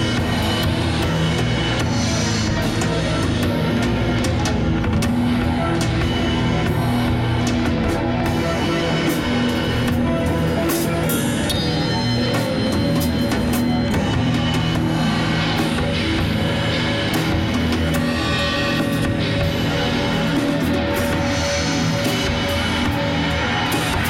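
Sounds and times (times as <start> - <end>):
heavy rock drumming: 0.0 - 24.0
sustained guitar: 0.0 - 24.0.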